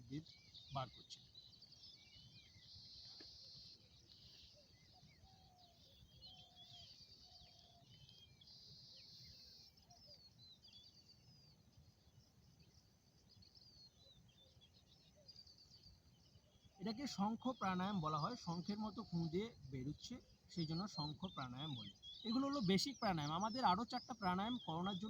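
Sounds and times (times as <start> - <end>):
faint birdsong: 0.0 - 25.0.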